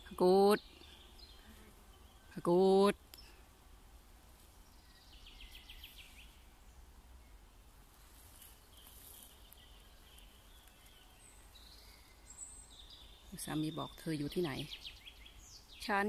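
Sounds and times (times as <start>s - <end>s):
small bird trills and chirps: 0.0s - 3.5s, 4.4s - 7.4s, 8.0s - 16.0s.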